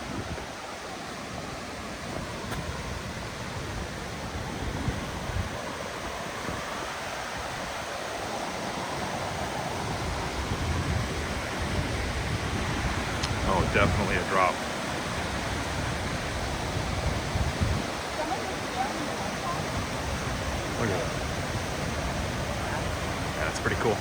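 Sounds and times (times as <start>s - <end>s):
waterfall rushing: 0.0s - 24.0s
wind buffeting microphone: 0.0s - 24.0s.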